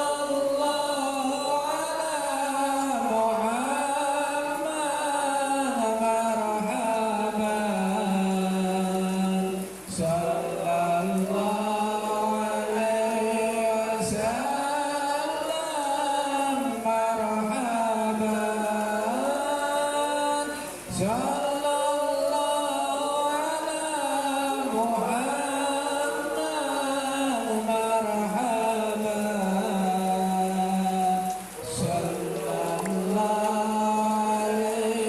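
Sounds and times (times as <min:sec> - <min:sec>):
person chanting ornamented phrases: 0:00.0 - 0:35.0.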